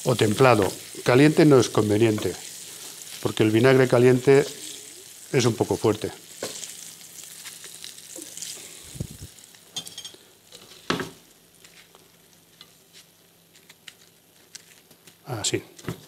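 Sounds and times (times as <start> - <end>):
oil sizzling in a frying pan: 0.0 - 13.2.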